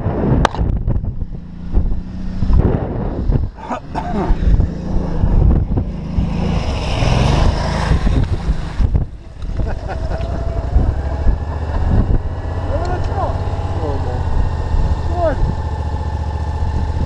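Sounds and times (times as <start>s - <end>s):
wind buffeting microphone: 0.0s - 17.0s
motorcycle engine running: 0.7s - 17.0s.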